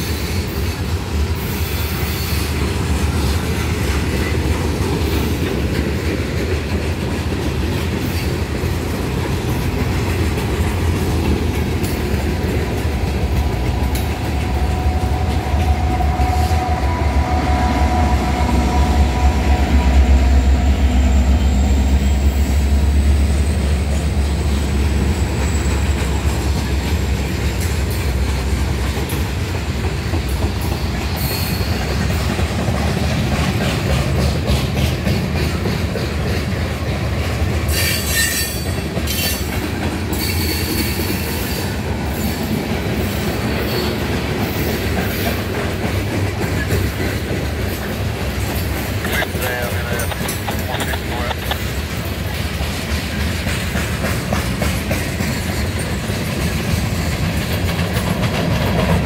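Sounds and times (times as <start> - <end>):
wheels clicking over rail joints: 0.0 - 16.8, 24.0 - 59.0
freight train cars rumbling: 0.0 - 59.0
locomotive engine drone: 0.8 - 34.5, 35.5 - 59.0.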